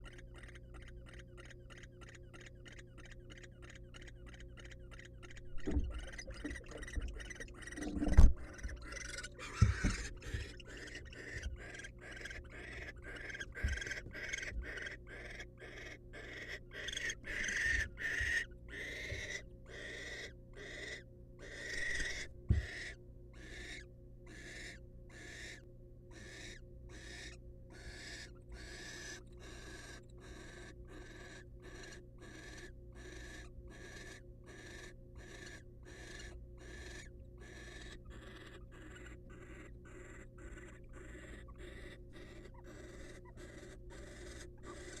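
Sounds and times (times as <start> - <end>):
barn owl rasping calls: 0.0 - 45.0.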